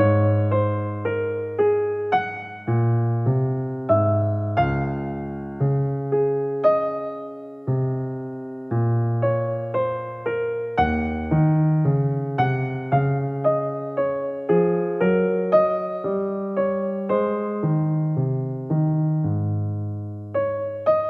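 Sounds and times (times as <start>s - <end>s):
gentle piano melody: 0.0s - 21.0s.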